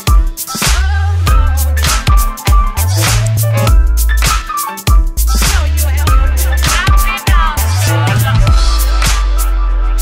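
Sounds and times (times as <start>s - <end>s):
electronic funk music: 0.0s - 10.0s.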